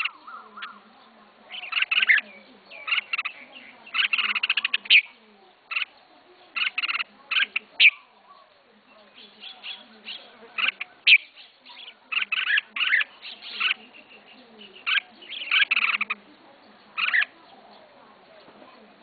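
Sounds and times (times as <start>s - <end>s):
bird warbling chirps: 0.0s - 18.5s.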